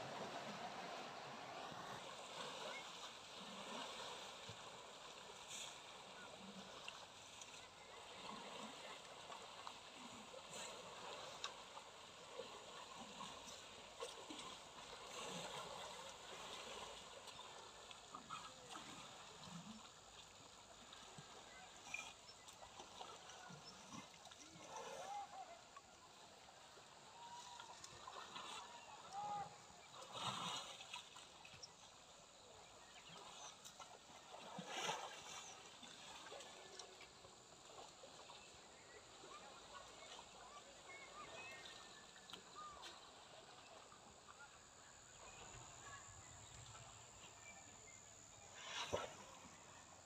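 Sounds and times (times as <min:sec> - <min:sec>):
faint river water rushing: 0:00.0 - 0:50.0.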